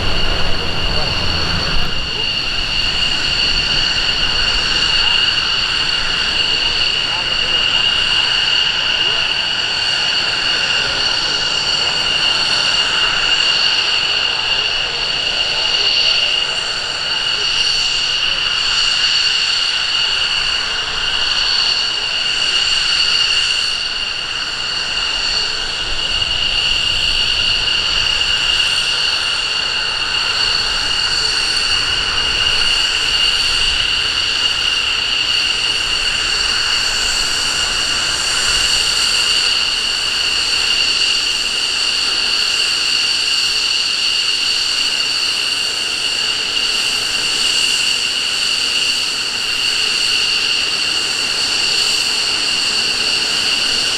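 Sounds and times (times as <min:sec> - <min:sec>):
jet engines whining and roaring: 0:00.0 - 0:53.9.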